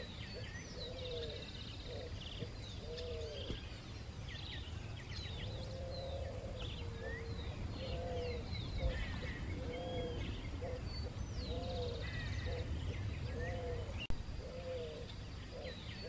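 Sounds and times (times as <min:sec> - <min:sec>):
birds chirping and trilling: 0:00.0 - 0:16.0
low arched bird call: 0:00.0 - 0:16.0.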